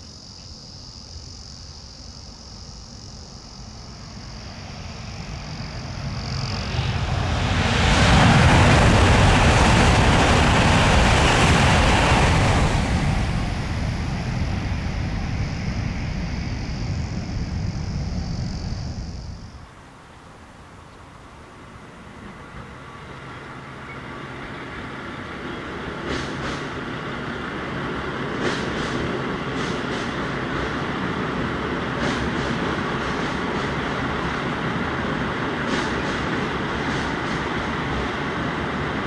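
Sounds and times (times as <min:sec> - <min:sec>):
crickets chirping: 0:00.0 - 0:39.0
passenger train rumbling past: 0:02.4 - 0:39.0.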